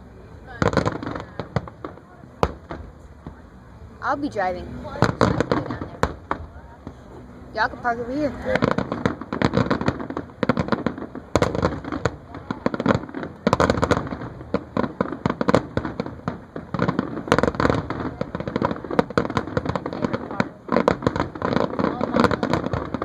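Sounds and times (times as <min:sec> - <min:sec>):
fireworks bursting and crackling: 0:00.0 - 0:23.0.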